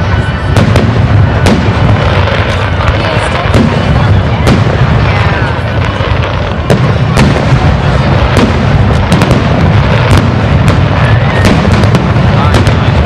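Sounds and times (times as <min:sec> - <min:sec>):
fireworks bursting with sharp bangs: 0:00.0 - 0:13.0
low rumble of booms: 0:00.0 - 0:13.0.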